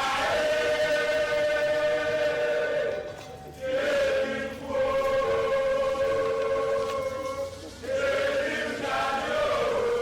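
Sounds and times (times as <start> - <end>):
choral singing in held notes: 0.0 - 10.0.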